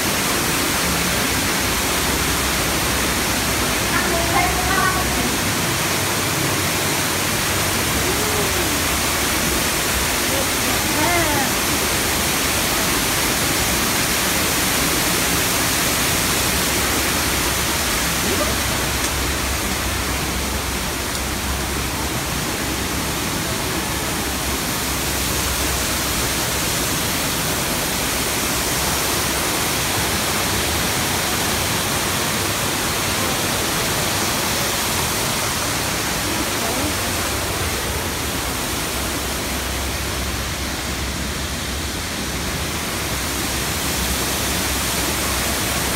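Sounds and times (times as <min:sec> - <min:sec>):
waterfall pouring into pond: 0:00.0 - 0:45.9.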